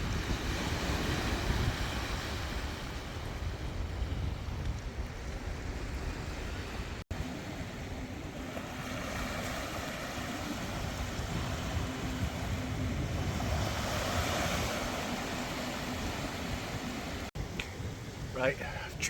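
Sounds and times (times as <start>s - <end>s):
surf washing onto beach: 0.0s - 17.7s
wind buffeting microphone: 0.0s - 19.0s.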